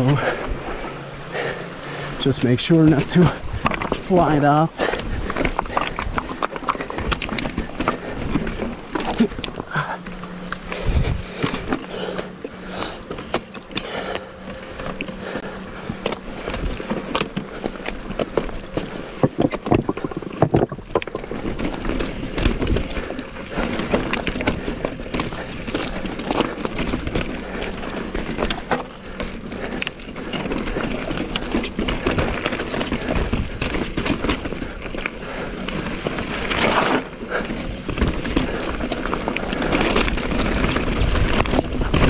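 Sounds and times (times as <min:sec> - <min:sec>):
bike tyres crunching over stones: 0:00.0 - 0:42.0
bike clicks and knocks: 0:01.3 - 0:42.0.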